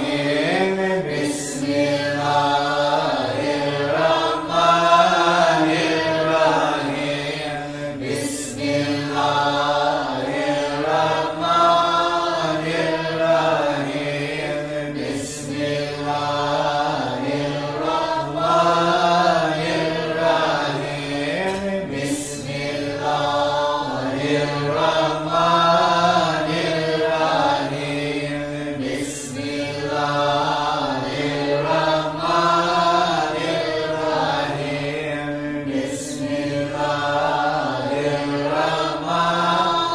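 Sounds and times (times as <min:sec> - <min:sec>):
voices chanting: 0:00.0 - 0:39.9.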